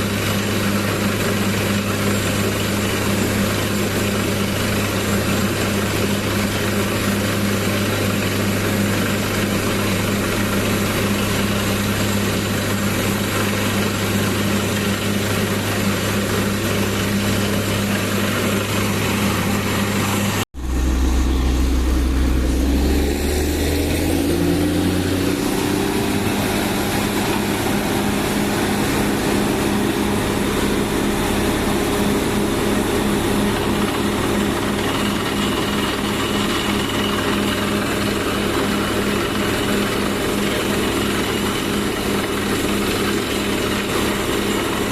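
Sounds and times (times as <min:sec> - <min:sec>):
deep engine hum: 0:00.0 - 0:44.9
drilling rig engine running: 0:00.0 - 0:44.9.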